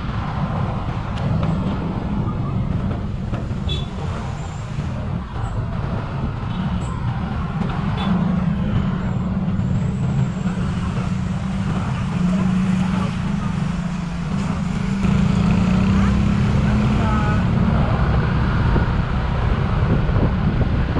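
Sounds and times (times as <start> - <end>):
road and wind noise: 0.0 - 20.9
motorcycle engine running: 0.4 - 18.1.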